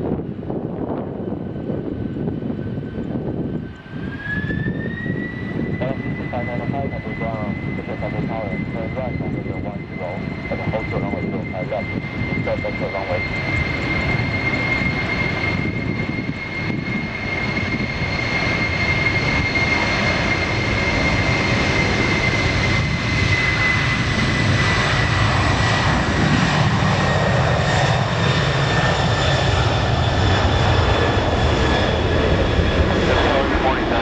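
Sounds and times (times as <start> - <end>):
jet engine rushing rumble: 0.0 - 34.0
jet engine whine: 0.0 - 34.0.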